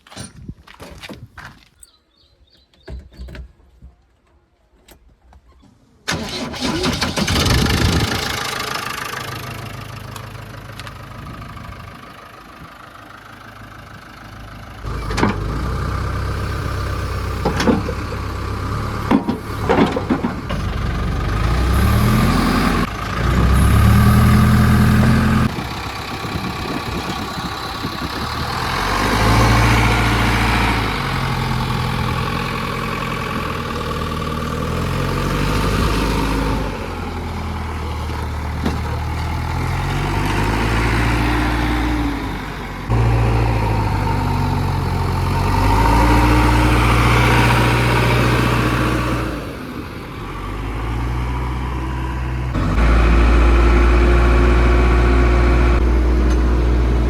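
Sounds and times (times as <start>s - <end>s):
diesel engine idling and revving: 6.1s - 57.0s.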